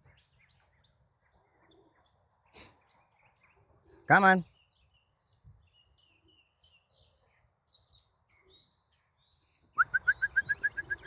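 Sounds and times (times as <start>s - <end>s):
rapid run of bird chirps: 0.0s - 11.0s.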